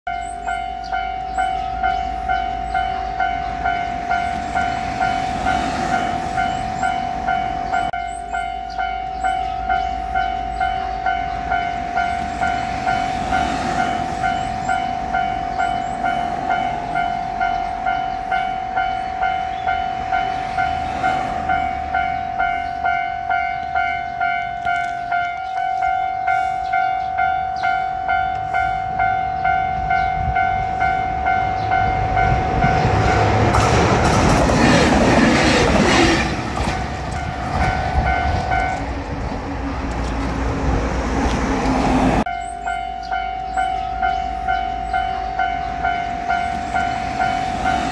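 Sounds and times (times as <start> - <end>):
level-crossing bell clanging: 0.1 - 33.8, 42.2 - 47.9
diesel railcar passing: 0.1 - 47.9.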